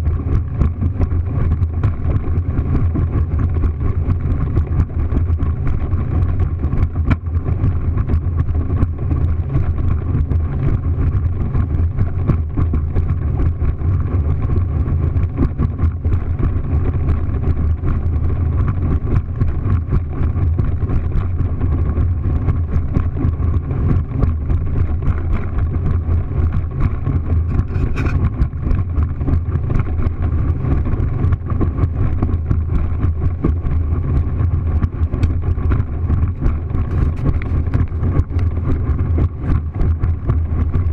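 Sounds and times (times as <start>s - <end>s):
motorboat engine drone: 0.0s - 40.9s
water noise: 0.0s - 40.9s
wind: 0.0s - 40.9s.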